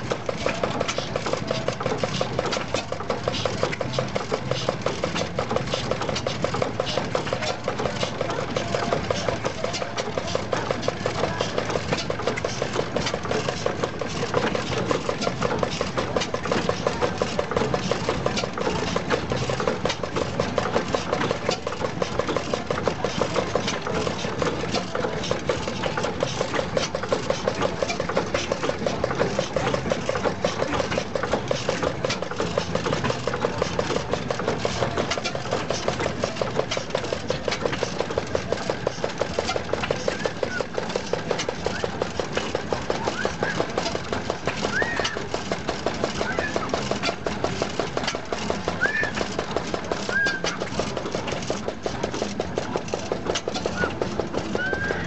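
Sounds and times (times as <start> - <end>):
stationary engine clattering: 0.0 - 55.0.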